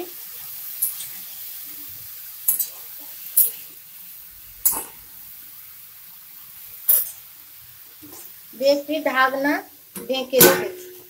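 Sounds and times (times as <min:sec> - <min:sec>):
cabbage sizzling in oil: 0:00.0 - 0:11.0.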